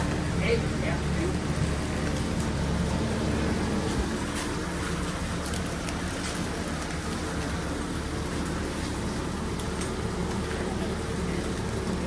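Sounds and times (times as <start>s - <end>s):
frying sizzle: 0.0s - 12.0s
ventilation hum: 0.0s - 12.0s.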